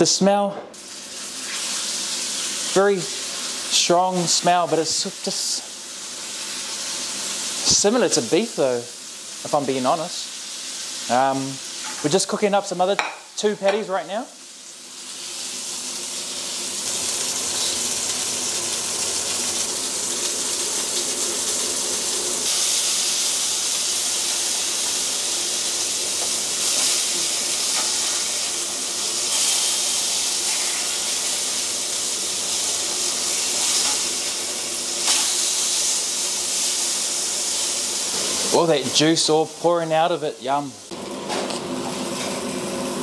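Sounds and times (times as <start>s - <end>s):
patties sizzling in oil: 0.7s - 43.0s.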